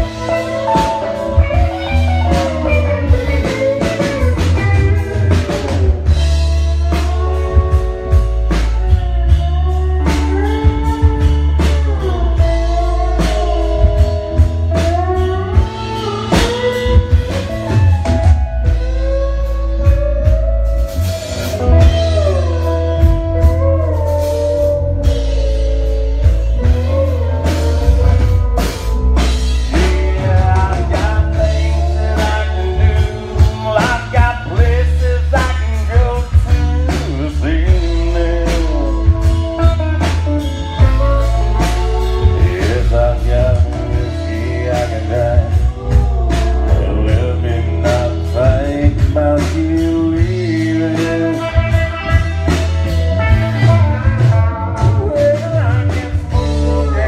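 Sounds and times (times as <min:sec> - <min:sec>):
country-rock band playing: 0:00.0 - 0:57.0
electric guitar lead line: 0:00.0 - 0:57.0.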